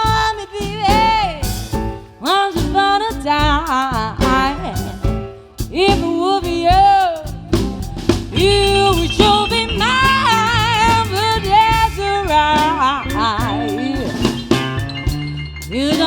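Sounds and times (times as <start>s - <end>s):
blues band playing: 0.0s - 16.0s
drum strokes: 0.0s - 16.0s.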